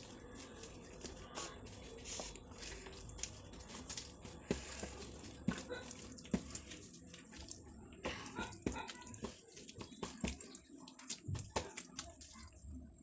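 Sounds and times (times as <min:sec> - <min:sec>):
wet chewing and food handling: 0:00.0 - 0:13.0.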